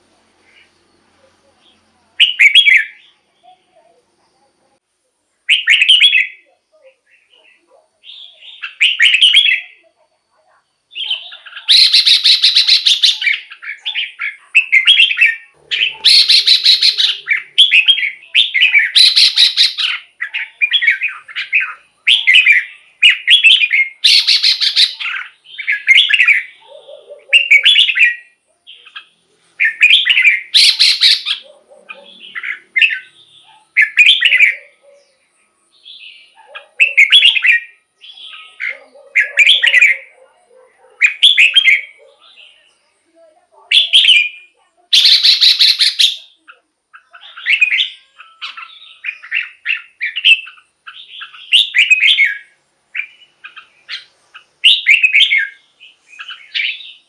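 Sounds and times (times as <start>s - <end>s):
bird singing warbled phrases: 0.0s - 4.7s, 5.4s - 57.0s.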